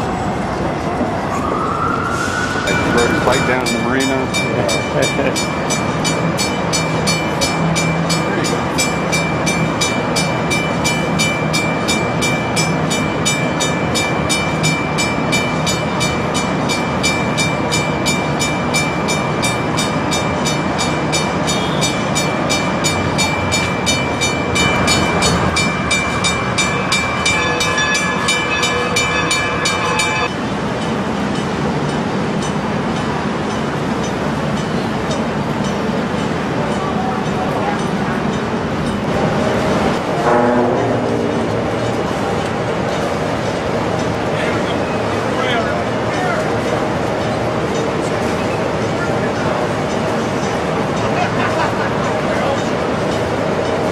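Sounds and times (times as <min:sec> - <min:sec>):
bridge warning bell ringing: 0:02.5 - 0:53.9.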